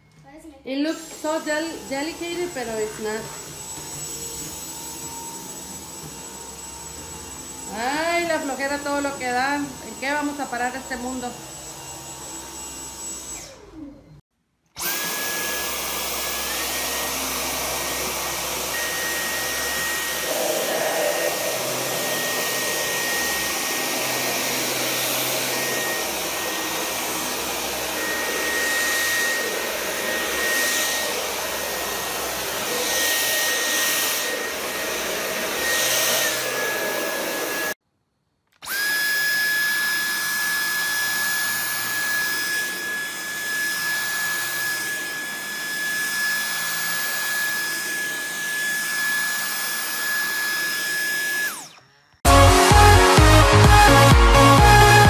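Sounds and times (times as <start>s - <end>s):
vacuum cleaner motor whine: 0.0s - 14.2s, 14.8s - 37.8s, 38.6s - 52.8s.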